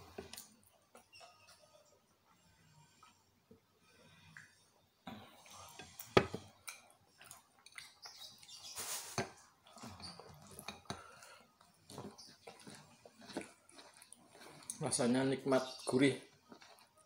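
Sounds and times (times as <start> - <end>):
chewing food: 0.1 - 8.7, 9.3 - 17.0.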